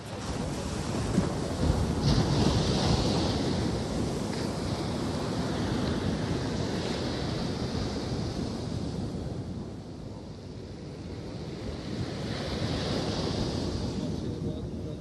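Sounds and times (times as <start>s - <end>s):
sea surf on sandy beach: 0.0s - 15.0s
wind on microphone: 0.0s - 15.0s.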